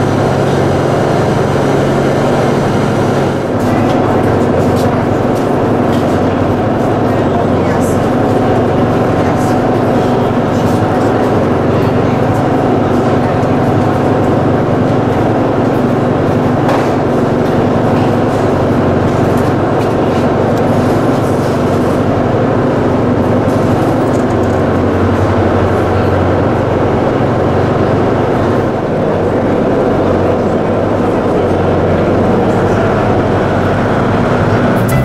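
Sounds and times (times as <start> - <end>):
ship engines droning: 0.0 - 35.0.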